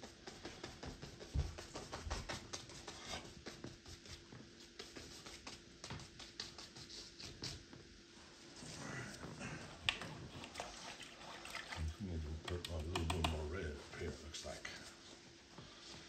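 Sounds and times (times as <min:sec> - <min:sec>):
paintbrush scrubbing on canvas: 0:00.0 - 0:08.8, 0:10.3 - 0:16.0
faint steady hum: 0:00.0 - 0:16.0.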